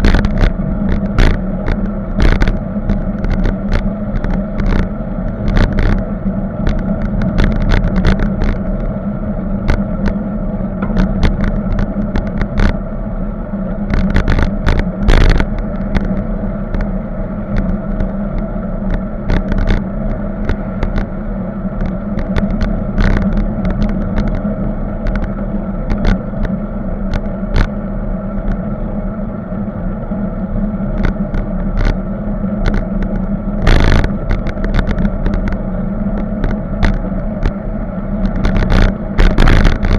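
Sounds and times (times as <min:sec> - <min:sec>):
bicycle road rumble: 0:00.0 - 0:39.9.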